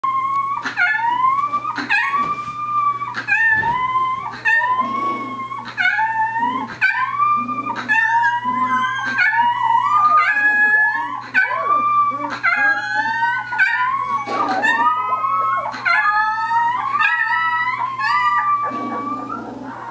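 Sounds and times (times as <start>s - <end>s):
puppies howling: 0.0s - 19.9s.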